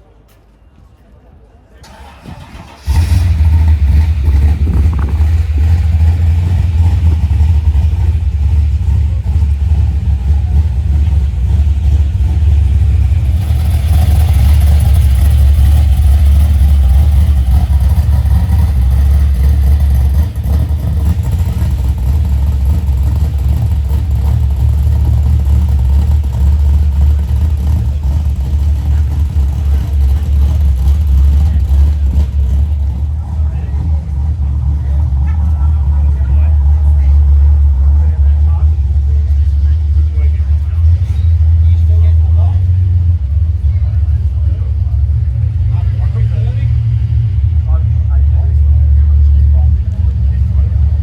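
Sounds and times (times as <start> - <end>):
car engine rumbling: 1.8 - 51.0.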